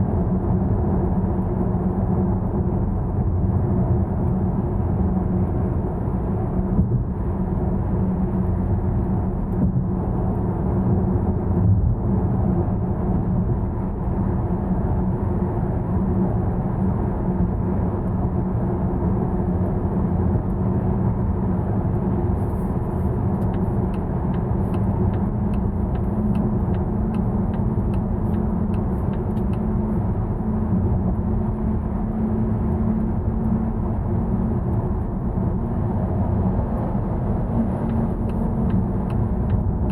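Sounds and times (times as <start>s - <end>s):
road and tyre noise: 0.0s - 39.9s.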